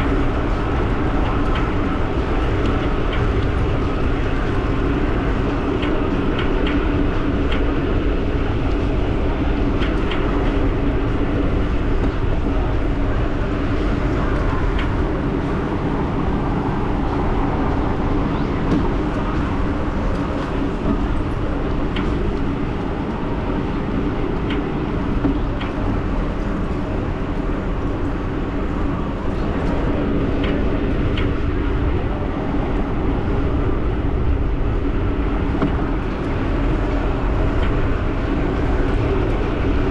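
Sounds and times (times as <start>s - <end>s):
steady hum: 0.0s - 39.9s
wind rumble on microphone: 0.0s - 39.9s.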